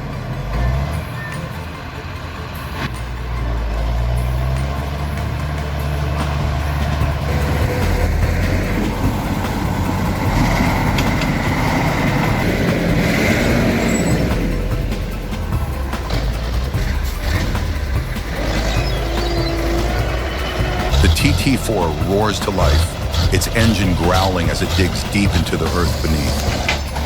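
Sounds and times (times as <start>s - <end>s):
diesel engine running at low revs: 0.0s - 27.0s.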